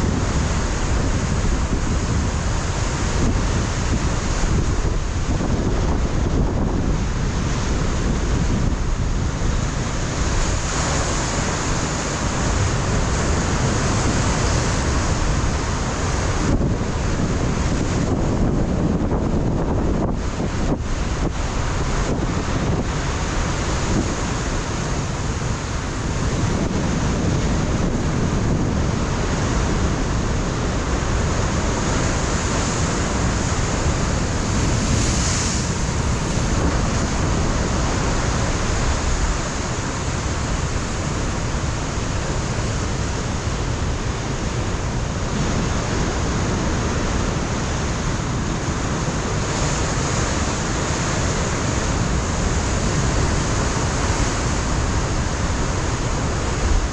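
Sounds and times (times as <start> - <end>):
ocean surf breaking on rocks: 0.0 - 56.9
wind buffeting microphone: 0.0 - 56.9.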